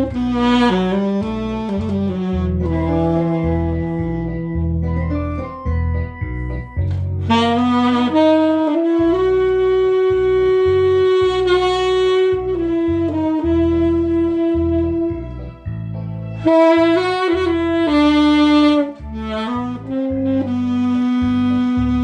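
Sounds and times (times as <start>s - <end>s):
backing track with bass line: 0.0s - 22.0s
tenor saxophone melody: 0.0s - 22.0s.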